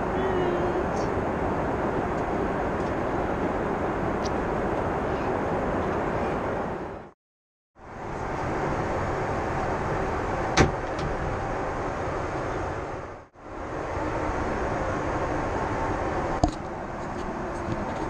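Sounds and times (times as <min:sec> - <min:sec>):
airplane cabin noise: 0:00.0 - 0:07.2, 0:07.9 - 0:18.0.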